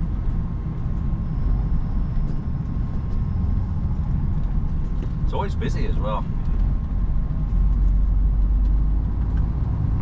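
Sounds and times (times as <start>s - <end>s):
lorry diesel engine rumble: 0.0s - 10.0s.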